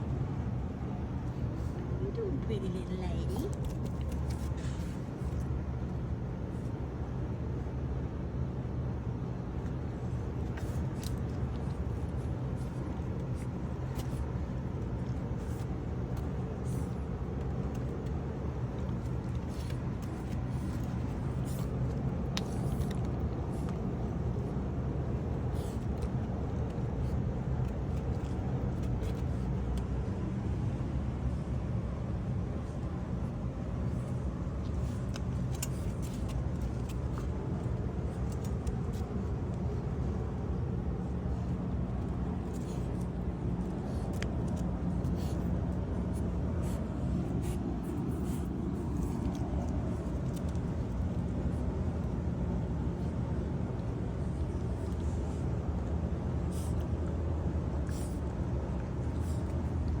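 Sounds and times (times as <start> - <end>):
steady low rumble: 0.0 - 60.0.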